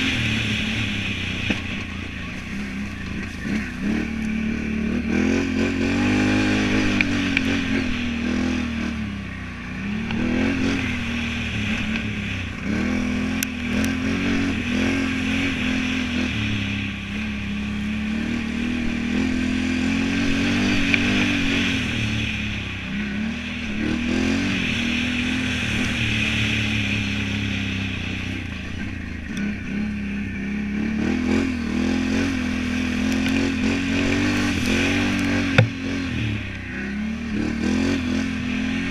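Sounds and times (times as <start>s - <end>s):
atv engine revving under load: 0.0s - 38.9s.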